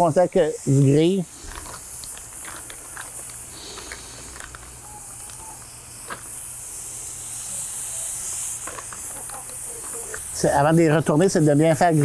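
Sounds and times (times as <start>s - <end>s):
chicken sizzling on grill: 0.0s - 12.0s.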